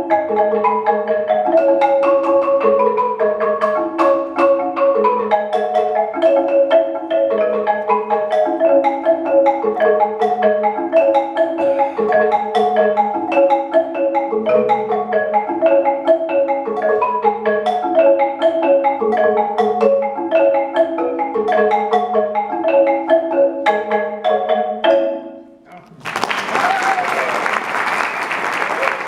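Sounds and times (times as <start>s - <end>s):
marimba played with mallets: 0.0s - 25.8s.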